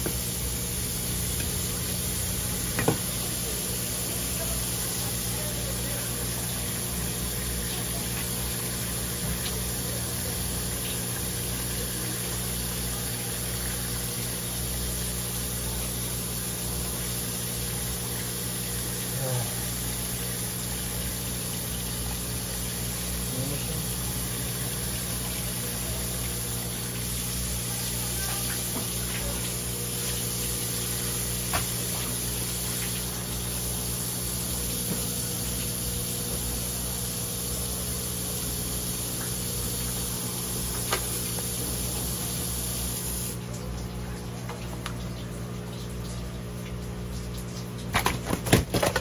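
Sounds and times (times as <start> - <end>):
low machine hum: 0.0 - 49.0.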